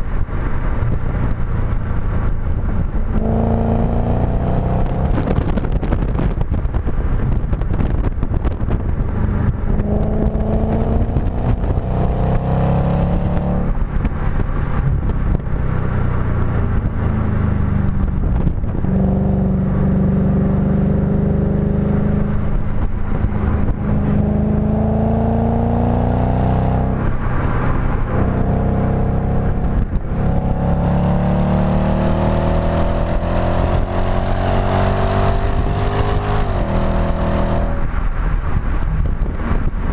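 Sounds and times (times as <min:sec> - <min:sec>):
car engine revving: 0:00.0 - 0:39.9
wind and road noise: 0:00.0 - 0:39.9.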